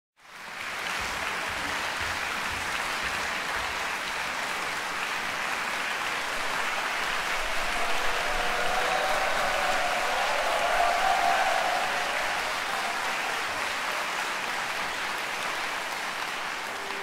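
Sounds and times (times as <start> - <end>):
audience applauding: 0.2 - 17.0.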